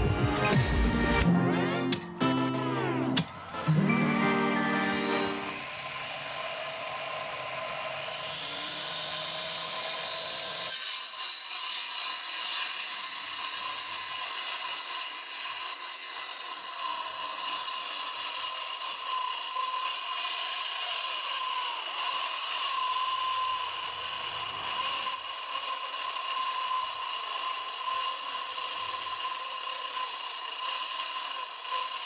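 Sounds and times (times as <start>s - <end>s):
blade cutting wood: 0.0s - 32.0s
saw motor whining: 0.0s - 32.0s.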